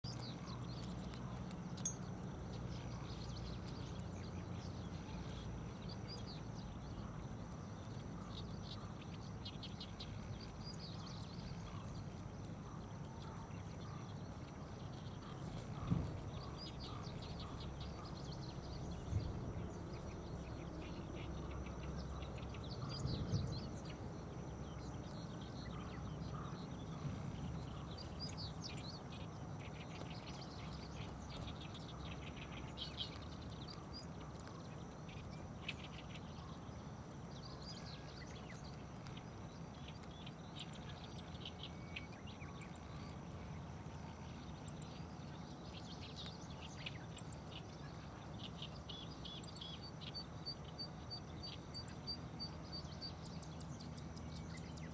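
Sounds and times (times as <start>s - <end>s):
low outdoor rumble: 0.0s - 54.9s
small birds chirping: 0.0s - 54.9s.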